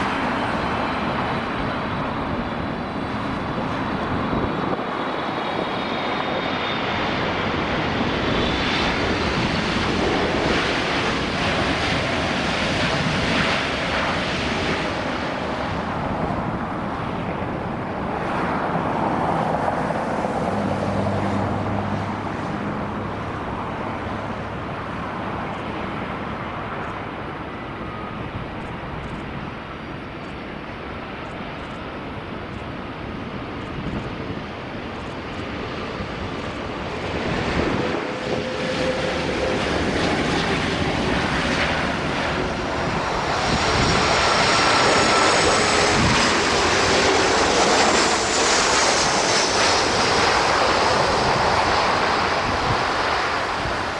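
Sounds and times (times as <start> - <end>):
jet engine roar on landing: 0.0 - 53.9
jet engine whine and hum: 0.0 - 53.9.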